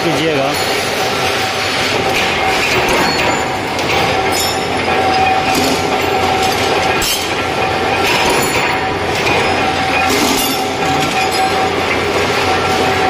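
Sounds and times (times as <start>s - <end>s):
steel rod rattling and scraping: 0.6s - 13.0s
cutting machine whining: 1.4s - 13.0s.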